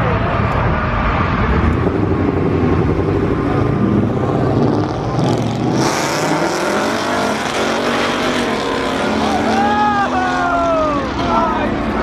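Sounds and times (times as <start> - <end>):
car engine revving: 0.2 - 12.0.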